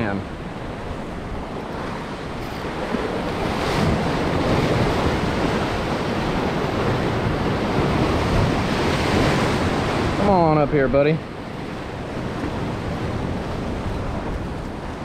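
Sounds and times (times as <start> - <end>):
surf washing over boulders: 0.0 - 15.0
wind buffeting microphone: 0.0 - 15.0.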